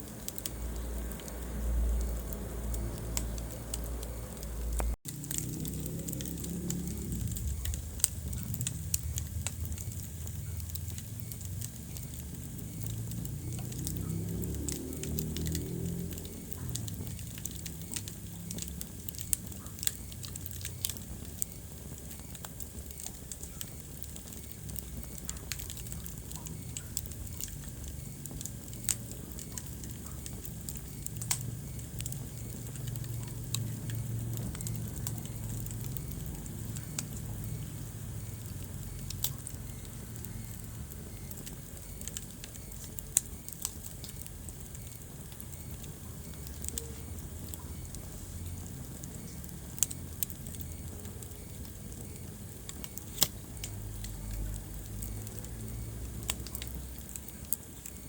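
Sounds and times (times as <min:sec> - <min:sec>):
low rumble of flames: 0:00.0 - 0:58.0
wood fire crackling and popping: 0:00.0 - 0:58.0.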